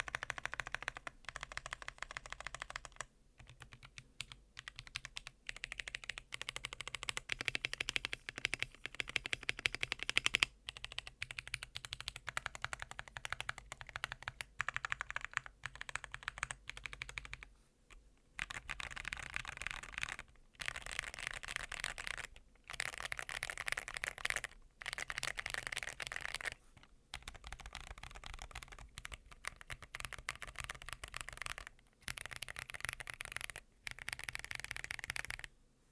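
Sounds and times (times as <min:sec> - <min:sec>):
mechanical keyboard typing: 0:00.0 - 0:17.5, 0:18.4 - 0:35.5.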